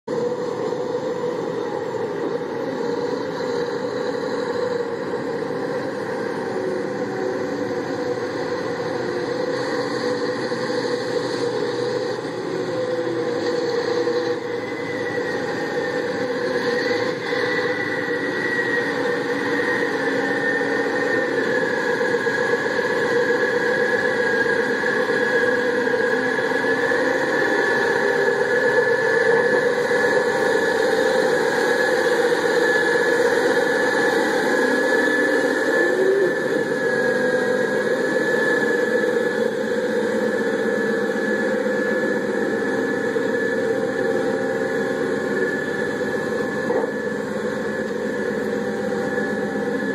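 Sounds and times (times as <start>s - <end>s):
high whine: 0.0s - 49.9s
diesel engine running: 0.1s - 49.9s.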